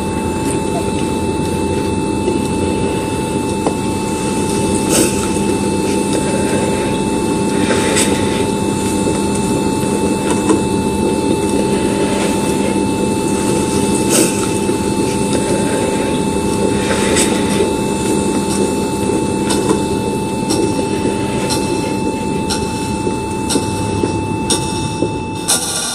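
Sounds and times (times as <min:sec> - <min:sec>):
patient monitor flatline tone: 0:00.0 - 0:25.9.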